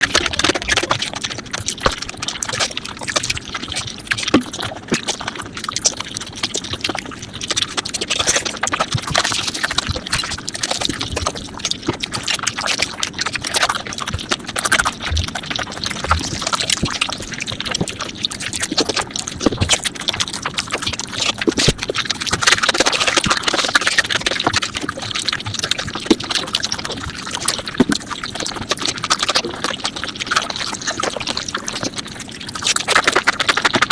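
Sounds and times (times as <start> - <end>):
sped-up chewing and slurping: 0.0 - 33.9.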